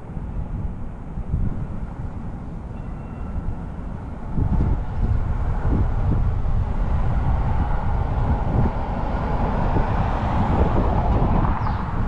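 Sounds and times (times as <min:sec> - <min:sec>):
road and traffic noise: 0:00.0 - 0:12.0
wind buffeting microphone: 0:00.0 - 0:12.0.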